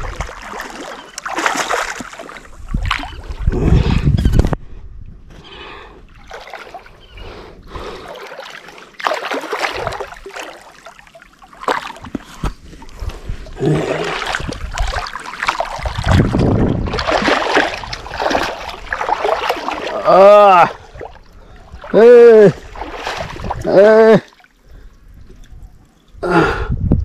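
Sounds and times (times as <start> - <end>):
water splashing from wading: 0.0 - 3.4, 6.1 - 12.9, 13.5 - 25.6.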